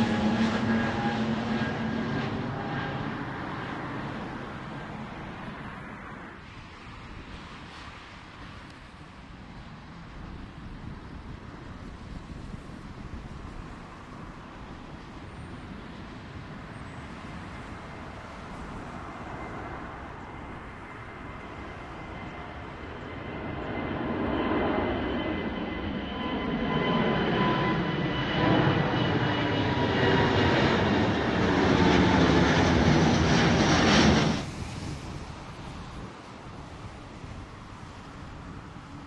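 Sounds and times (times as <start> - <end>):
jet plane passing overhead: 0.0 - 39.0.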